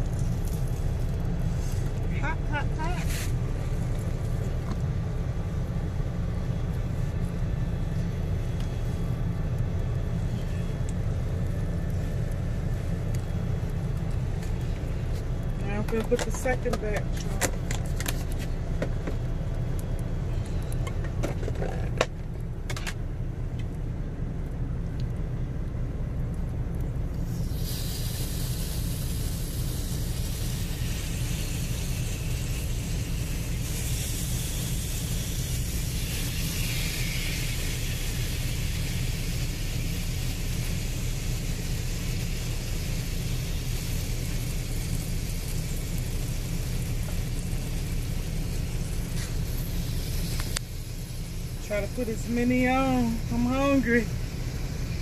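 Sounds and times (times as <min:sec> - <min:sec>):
chicken sizzling on grill: 0:00.0 - 0:20.8, 0:26.0 - 0:55.0.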